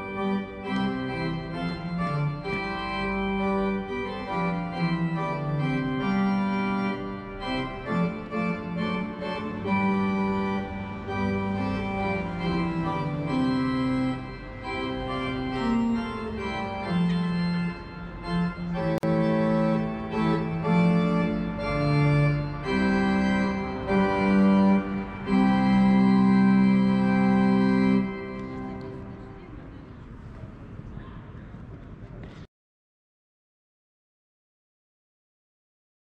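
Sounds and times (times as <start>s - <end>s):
organ music: 0.0s - 29.8s.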